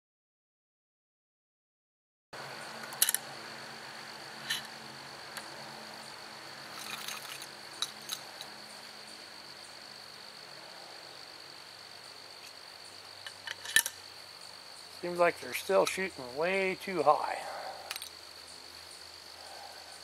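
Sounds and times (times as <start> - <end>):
insects trilling: 2.4 - 20.0.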